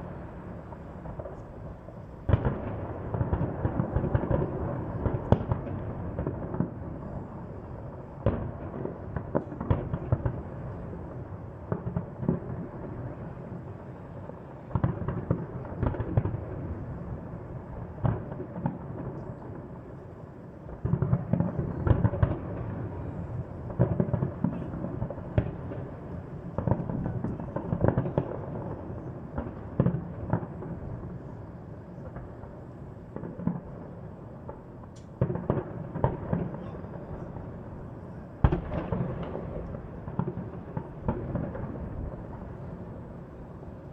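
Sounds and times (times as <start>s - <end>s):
continuous rumble: 0.0s - 43.9s
fireworks booming and crackling: 0.0s - 43.9s.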